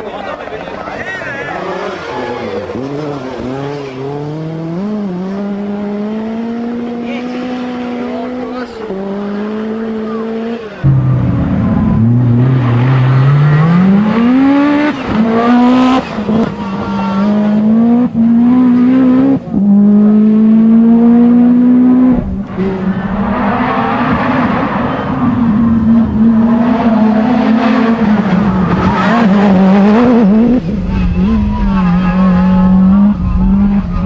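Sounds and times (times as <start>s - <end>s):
rally car engine accelerating: 1.4s - 34.0s.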